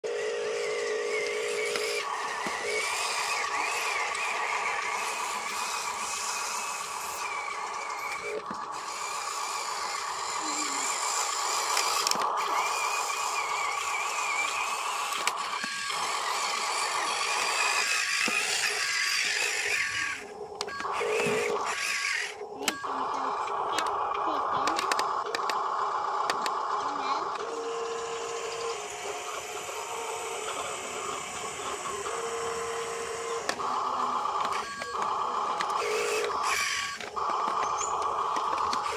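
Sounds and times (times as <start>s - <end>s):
small electric motors whining: 0.0s - 38.9s.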